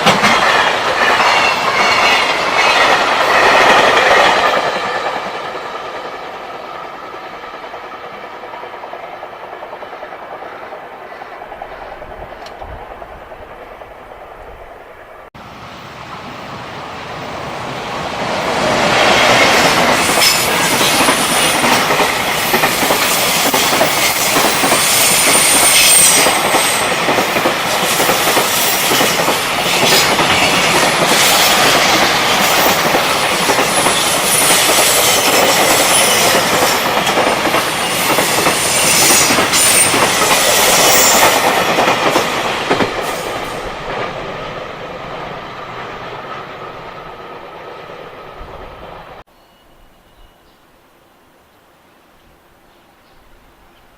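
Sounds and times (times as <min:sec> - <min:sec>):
rail joint clicks: 0:00.0 - 0:14.8, 0:19.0 - 0:49.2
freight train wheels on rail: 0:00.0 - 0:50.6.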